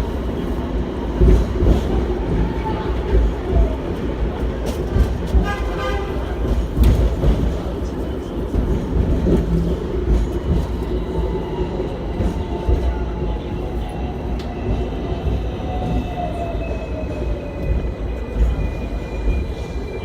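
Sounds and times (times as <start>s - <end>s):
tram wheels rumbling on rail: 0.0s - 20.0s.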